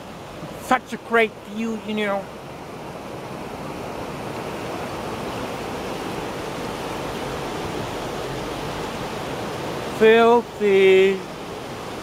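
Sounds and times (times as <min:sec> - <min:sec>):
river floodwater rushing: 0:00.0 - 0:12.0.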